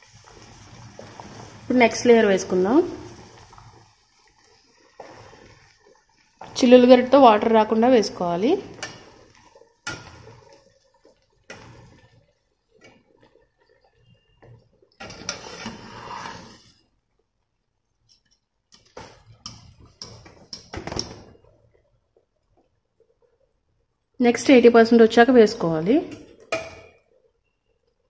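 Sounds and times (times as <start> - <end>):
boiling water splashing and draining: 0.0 - 28.0.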